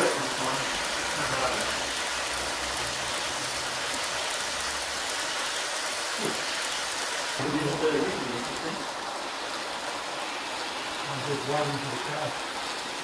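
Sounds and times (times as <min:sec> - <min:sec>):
model locomotive motor: 0:00.0 - 0:13.0.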